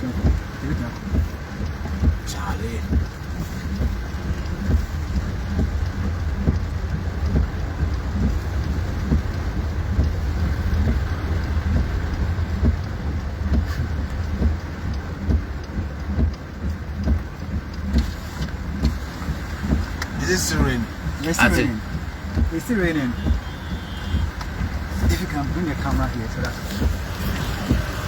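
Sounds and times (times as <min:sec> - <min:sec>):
constant low rumble: 0:00.0 - 0:28.0
heavy rain falling: 0:00.0 - 0:28.0.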